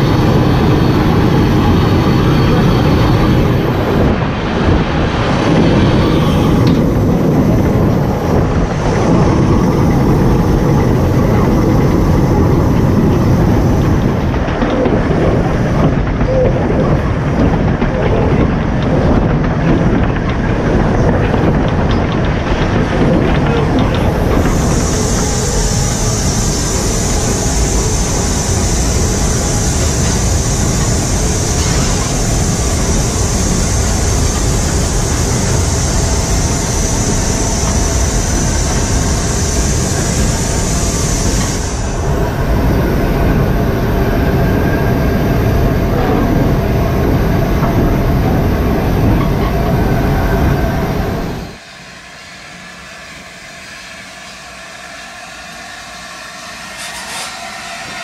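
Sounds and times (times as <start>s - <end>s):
high steam hiss: 0.0s - 18.4s, 20.8s - 58.0s
rushing air: 0.0s - 51.7s
train wheels on rails: 0.0s - 58.0s.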